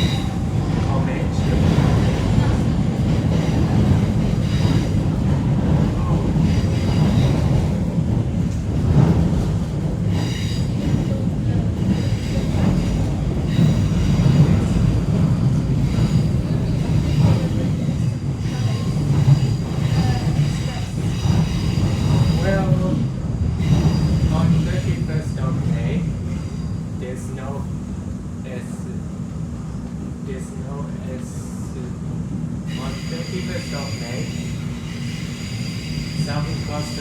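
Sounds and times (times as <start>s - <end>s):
train rumbling inside carriage: 0.0s - 37.0s.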